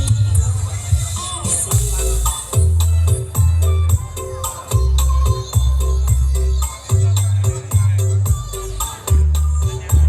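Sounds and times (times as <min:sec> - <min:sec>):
bass-heavy music on subwoofer: 0:00.0 - 0:10.0.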